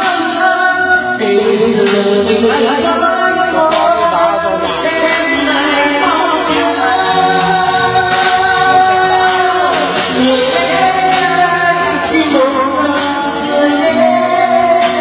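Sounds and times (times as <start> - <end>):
loud backing music: 0.0 - 15.0
person singing long held notes: 0.0 - 15.0.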